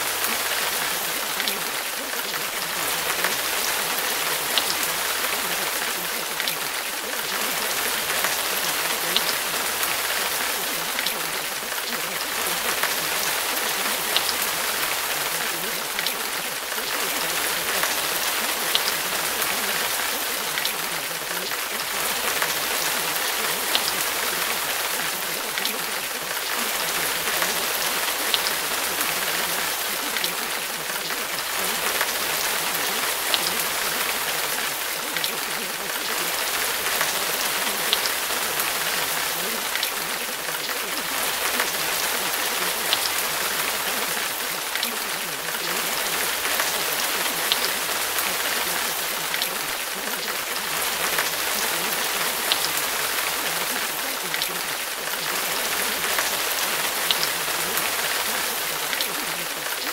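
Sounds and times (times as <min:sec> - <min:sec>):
steady rain hiss: 0:00.0 - 0:59.9
raindrop ticks: 0:00.1 - 0:59.9.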